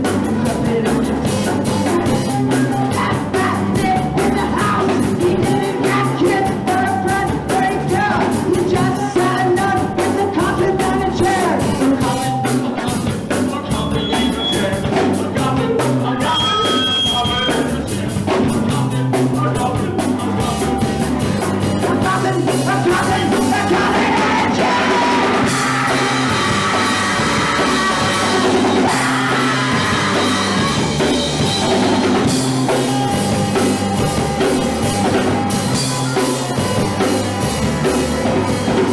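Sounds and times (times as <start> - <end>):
drum kit beating: 0.0 - 38.9
guitars and bass: 0.0 - 38.9
sung vocals: 0.0 - 38.9.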